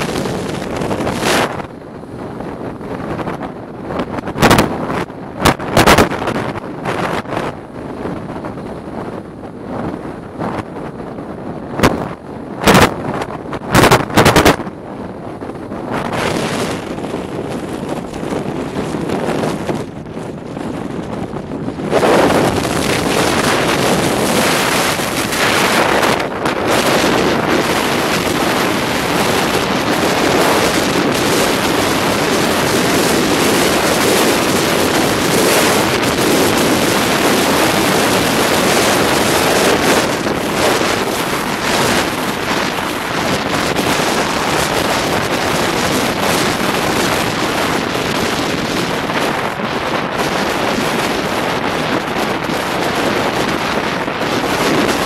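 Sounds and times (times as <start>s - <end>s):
car wind and road noise: 0.0s - 55.0s
wind on microphone: 0.0s - 55.0s.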